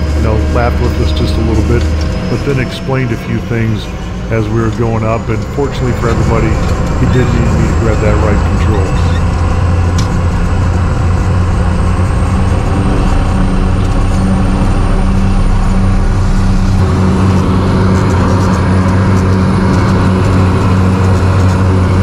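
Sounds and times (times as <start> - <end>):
turboprop engine drone with whine: 0.0 - 22.0.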